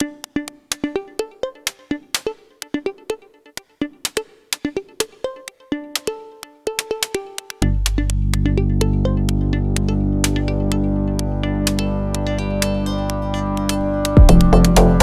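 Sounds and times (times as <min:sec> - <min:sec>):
electronic music plucked notes: 0:00.0 - 0:15.0.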